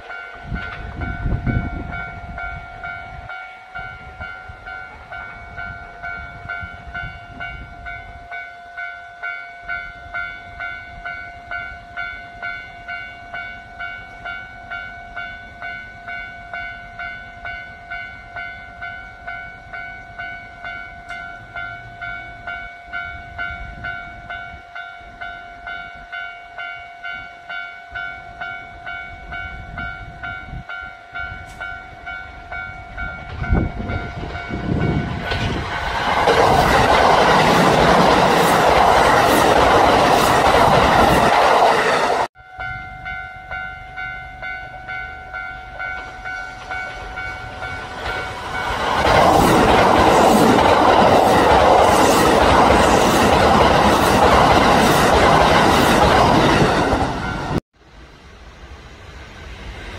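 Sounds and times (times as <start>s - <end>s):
pulsing bell-like warning tone: 0.0s - 35.3s, 41.8s - 49.0s, 51.0s - 57.6s
train passing with wheel noise: 0.0s - 59.9s.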